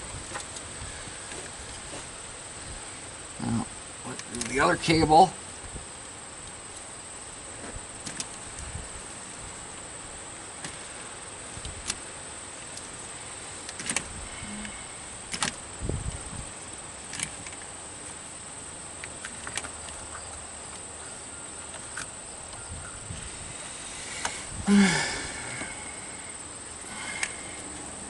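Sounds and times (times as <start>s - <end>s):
steady high-pitched hiss: 0.0s - 28.0s.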